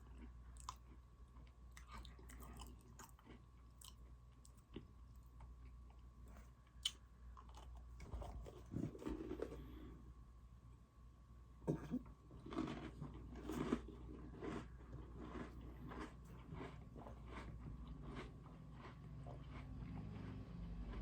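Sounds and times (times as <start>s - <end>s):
cookies crunching and chewing: 0.0s - 10.0s, 11.7s - 21.0s.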